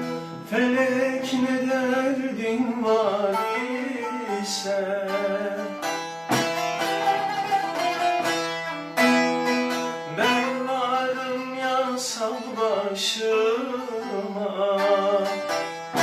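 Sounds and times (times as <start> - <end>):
plucked string folk melody: 0.0 - 16.0.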